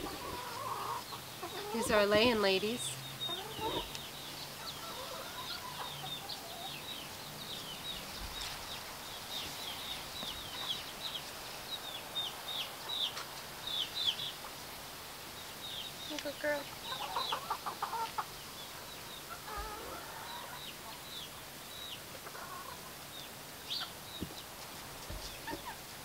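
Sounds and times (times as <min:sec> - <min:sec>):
chickens chirping: 0:00.0 - 0:26.0
chickens clucking: 0:00.0 - 0:26.0.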